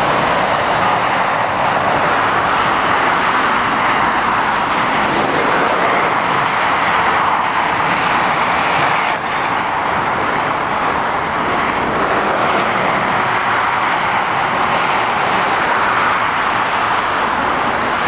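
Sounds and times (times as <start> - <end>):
tyres hissing on road: 0.0 - 18.0
vehicle engine noise: 0.0 - 18.0.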